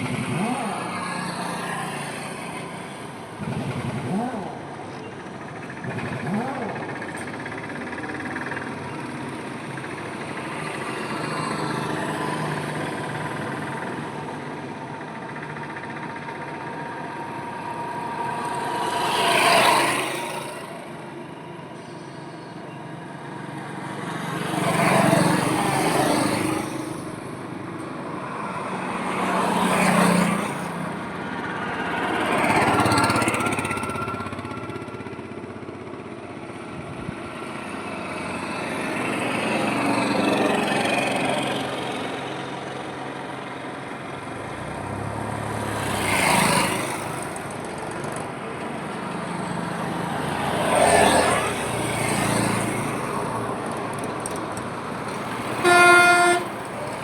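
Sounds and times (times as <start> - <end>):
highway traffic hum: 0.0 - 57.0
vehicles passing close by: 0.0 - 57.0.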